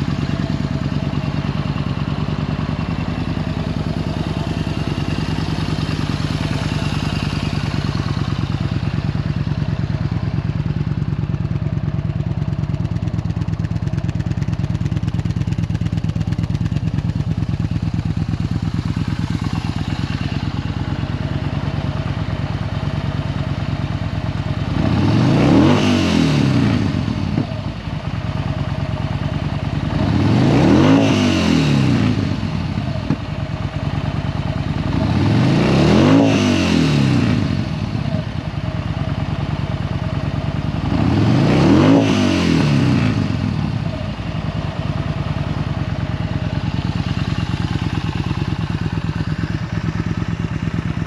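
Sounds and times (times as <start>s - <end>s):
motorcycle engine idling: 0.0s - 51.0s
motorcycle engine revving: 0.0s - 51.0s.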